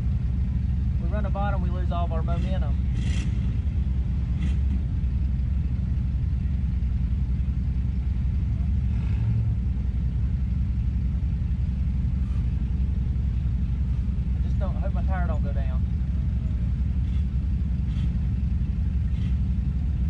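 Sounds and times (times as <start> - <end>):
race car engine idling: 0.0 - 20.0.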